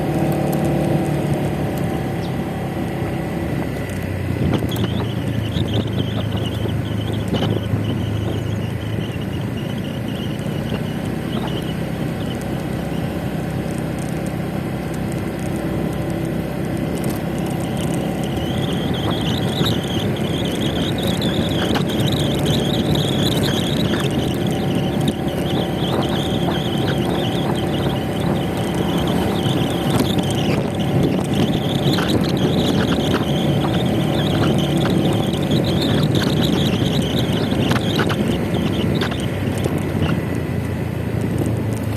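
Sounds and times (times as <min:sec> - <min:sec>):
motor scooter engine running: 0:00.0 - 0:41.9
wind and road noise: 0:00.0 - 0:41.9.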